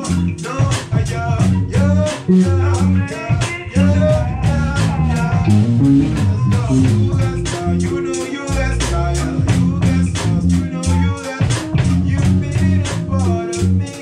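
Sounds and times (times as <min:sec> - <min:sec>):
drum kit: 0:00.0 - 0:14.0
guitar: 0:00.0 - 0:14.0
low bass notes: 0:00.0 - 0:14.0.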